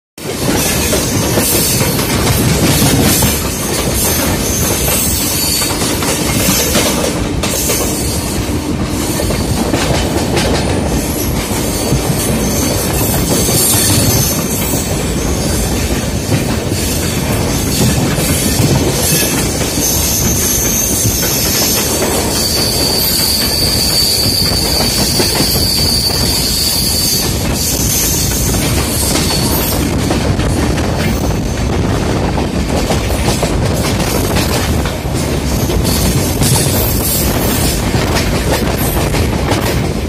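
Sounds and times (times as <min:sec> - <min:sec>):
passing train alongside: 0:00.2 - 0:40.0
train wheels clattering on rail: 0:00.2 - 0:40.0.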